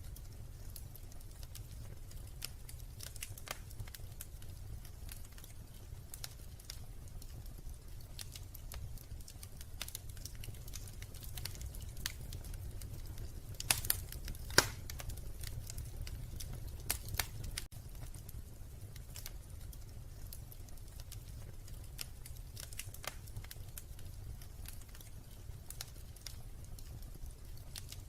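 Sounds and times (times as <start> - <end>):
fire pops: 0.0 - 28.0
wood fire crackling: 0.0 - 28.0.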